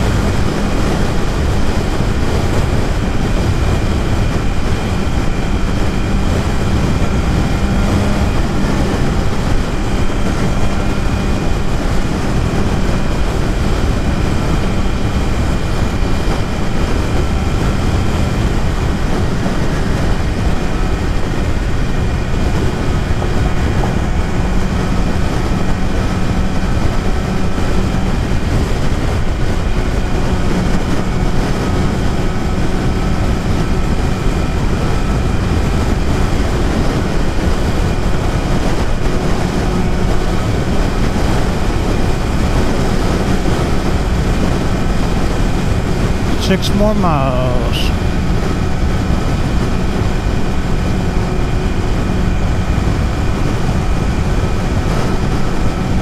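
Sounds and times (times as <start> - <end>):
motorcycle engine cruising: 0.0 - 46.3
wind rush on microphone: 0.0 - 56.0.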